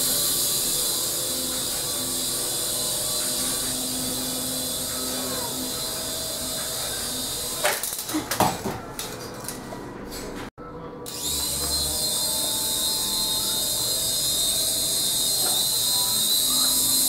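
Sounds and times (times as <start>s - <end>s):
small rotor motor whine: 0.0s - 7.8s, 11.1s - 17.0s.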